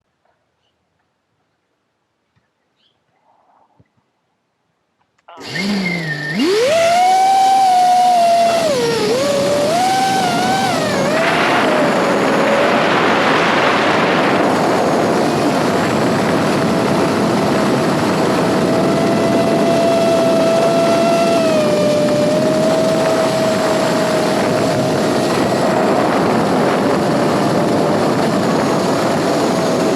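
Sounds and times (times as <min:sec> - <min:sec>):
drone motors whining: 0:05.4 - 0:29.9.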